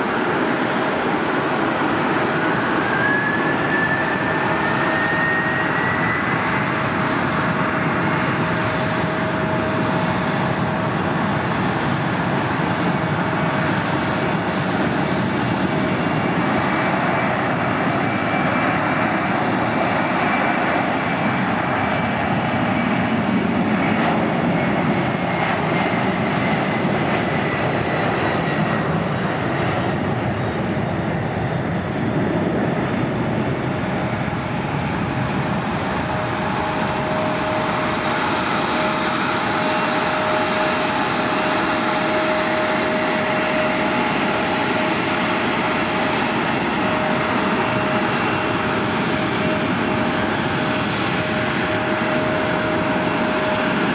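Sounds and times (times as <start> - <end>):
jet engines at takeoff power: 0.0 - 53.9.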